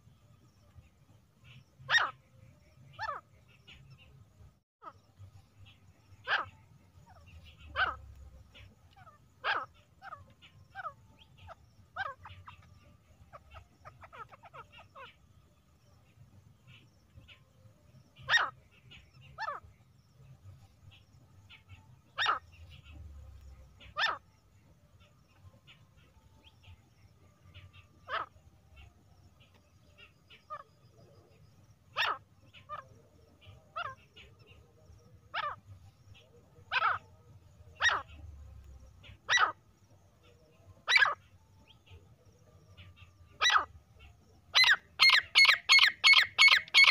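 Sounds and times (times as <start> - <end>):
bird sharp calls: 1.4 - 2.3, 2.9 - 4.1, 4.8 - 15.3, 18.2 - 20.3, 20.9 - 46.9.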